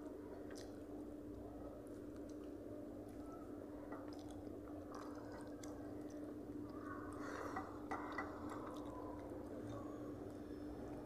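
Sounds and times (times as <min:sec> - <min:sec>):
chewing: 0:00.3 - 0:11.0.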